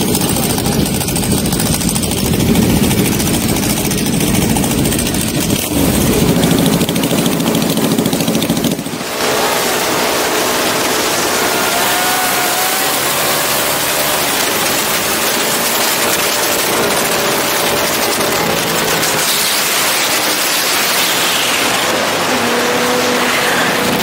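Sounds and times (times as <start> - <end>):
motorcycle engines revving: 0.0 - 24.0
wind and road noise: 0.0 - 24.0.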